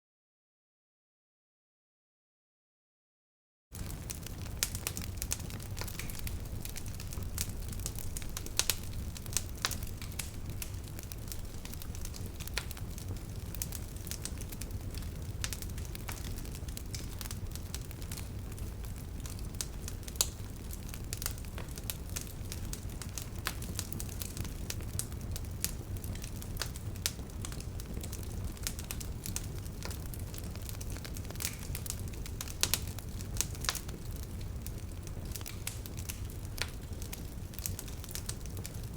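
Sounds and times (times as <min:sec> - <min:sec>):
bonfire crackling and popping: 0:03.8 - 0:38.9.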